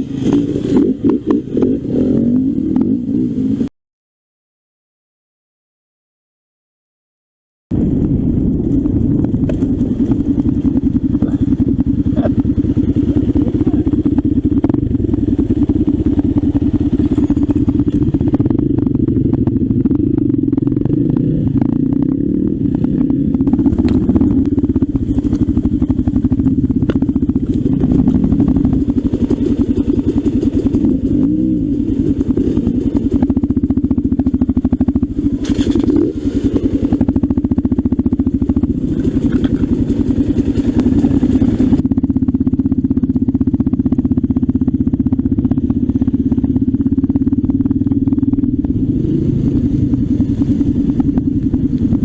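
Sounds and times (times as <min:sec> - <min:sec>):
motorcycle engine running: 0:00.0 - 0:03.7, 0:07.7 - 0:52.0.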